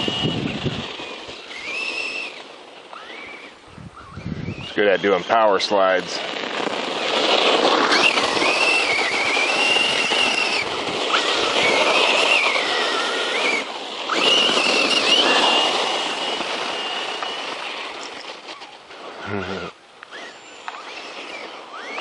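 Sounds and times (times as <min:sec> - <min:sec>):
electric motor whining: 0:00.0 - 0:22.0
tyres skidding: 0:00.0 - 0:22.0.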